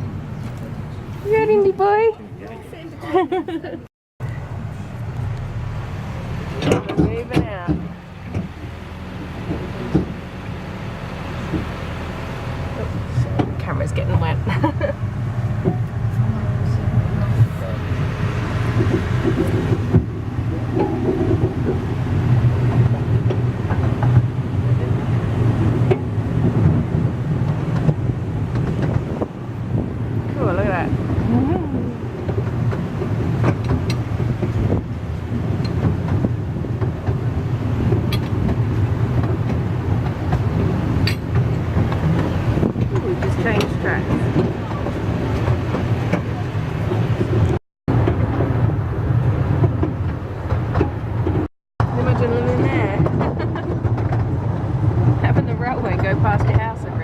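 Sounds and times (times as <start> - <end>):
railway carriage wheels rumbling: 0.0 - 57.0.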